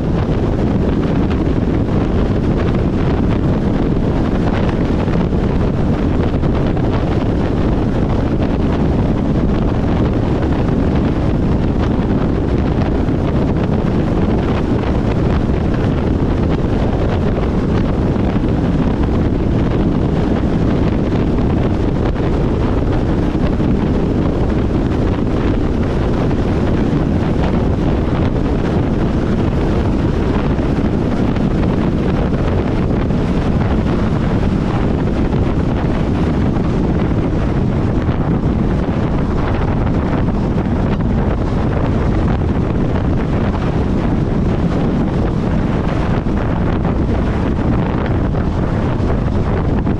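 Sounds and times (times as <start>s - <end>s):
wind noise on microphone: 0.0s - 49.9s.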